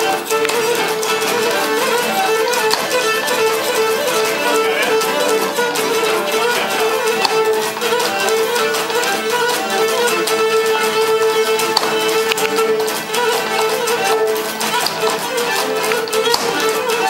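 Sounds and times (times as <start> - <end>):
bowed string melody: 0.0 - 17.0
plucked lutes strumming: 0.0 - 17.0.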